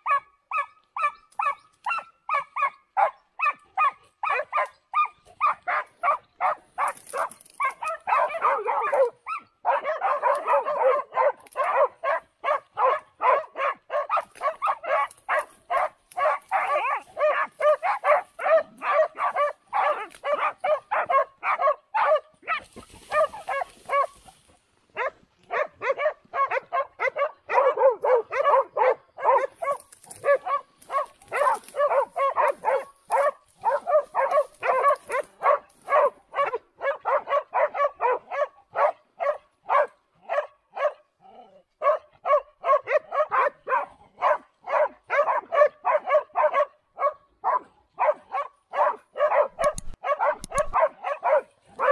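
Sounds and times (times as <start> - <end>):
dogs barking rapidly: 0.0 - 51.9.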